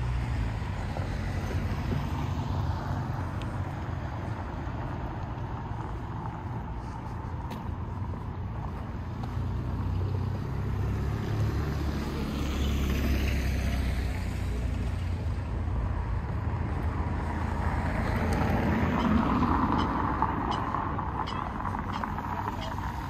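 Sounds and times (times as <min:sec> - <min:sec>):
street traffic rumble: 0:00.0 - 0:23.0
vehicles passing: 0:00.0 - 0:23.0.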